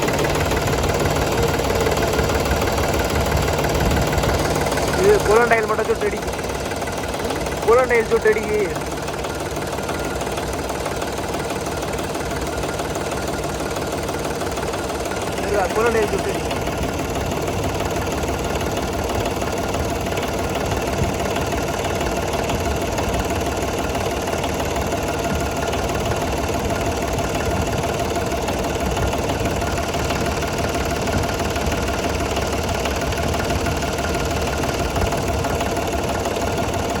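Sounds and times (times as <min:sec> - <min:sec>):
tractor engine idling: 0:00.0 - 0:37.0.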